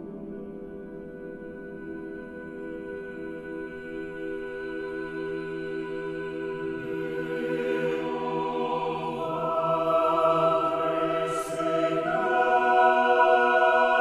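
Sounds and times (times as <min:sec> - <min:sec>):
choir singing a cappella: 0:01.3 - 0:14.0.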